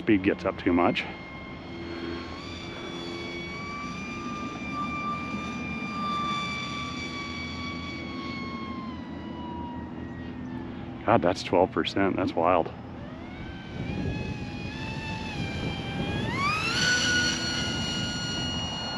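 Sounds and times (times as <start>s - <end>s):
model plane motor whining: 0.0s - 11.0s, 12.7s - 18.9s.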